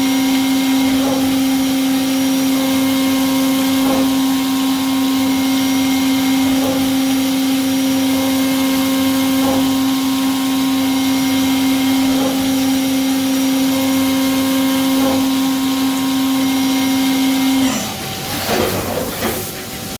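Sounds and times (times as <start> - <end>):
milling machine spindle whine: 0.0 - 19.9.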